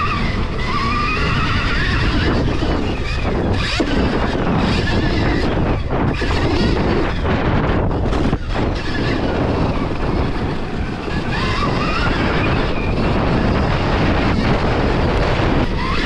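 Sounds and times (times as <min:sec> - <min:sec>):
electric motor whine: 0:00.0 - 0:16.0
wind buffeting microphone: 0:00.0 - 0:16.0.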